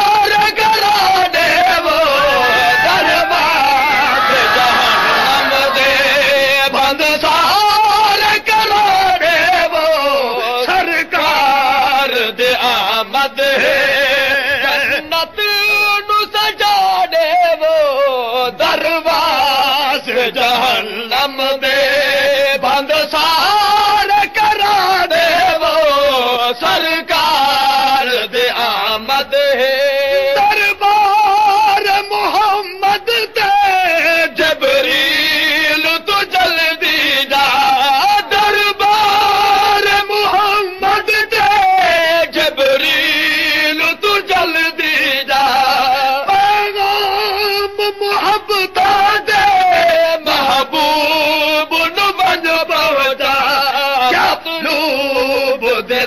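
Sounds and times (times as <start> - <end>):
man chanting melodically: 0.0 - 56.0.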